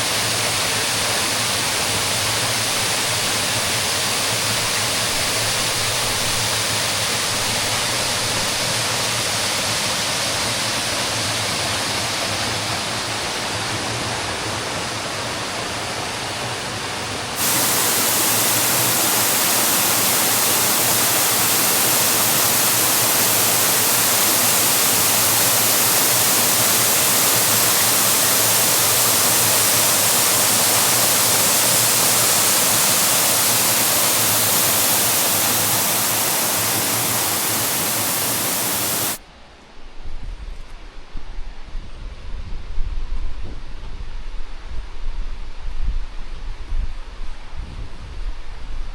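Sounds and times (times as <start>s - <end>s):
waterfall rushing: 0.0s - 39.2s.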